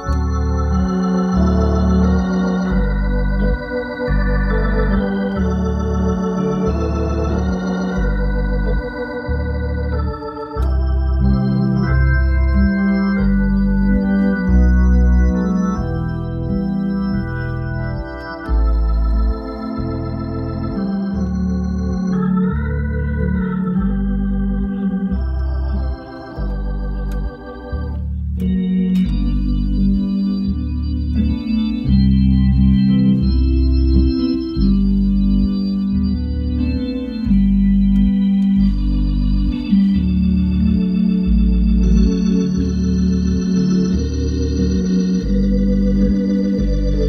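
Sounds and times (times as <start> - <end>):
organ playing a hymn: 0.0 - 47.0.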